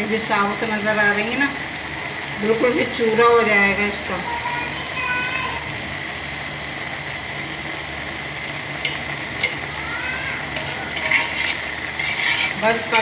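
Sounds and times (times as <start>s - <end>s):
milk sizzling in a pot: 0.0s - 13.0s.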